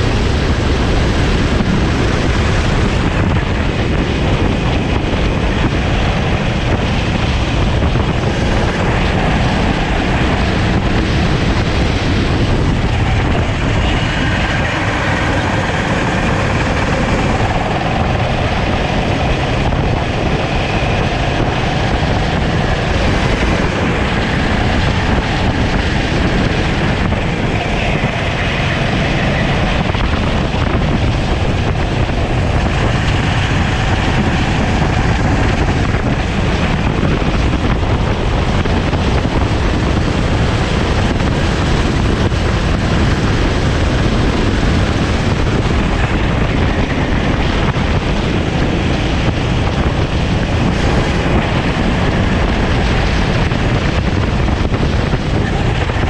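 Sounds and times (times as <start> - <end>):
kart engine running hard: 0.0 - 56.0
wind noise on microphone: 0.0 - 56.0.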